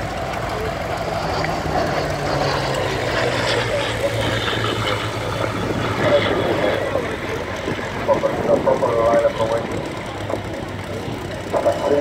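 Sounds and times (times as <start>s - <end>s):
radial piston engine droning: 0.0s - 12.0s.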